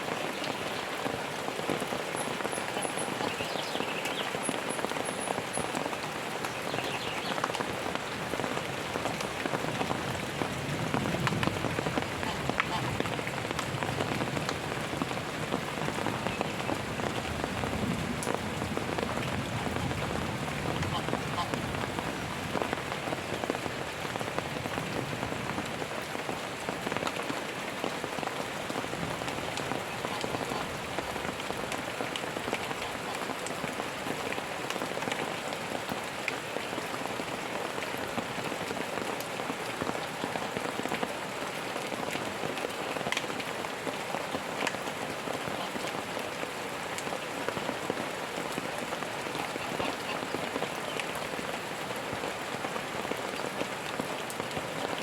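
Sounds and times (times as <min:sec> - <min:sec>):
raindrops ticking on a surface: 0:00.0 - 0:55.0
steady rain hiss: 0:00.0 - 0:55.0.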